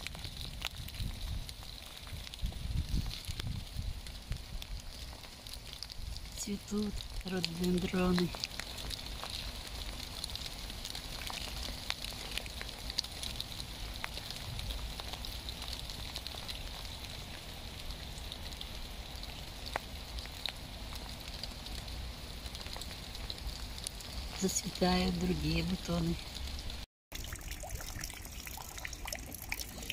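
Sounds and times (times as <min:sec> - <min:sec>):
drops ticking on leaves: 0:00.0 - 0:26.9
rain on plants and soil: 0:00.0 - 0:29.9.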